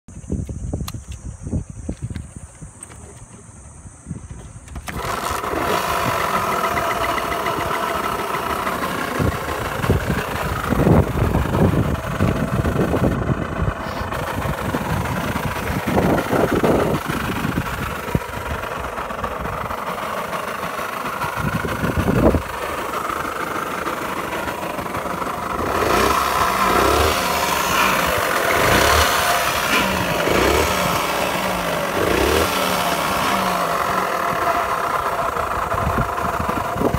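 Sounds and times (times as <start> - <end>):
two-stroke engine running and revving: 4.7 - 36.9.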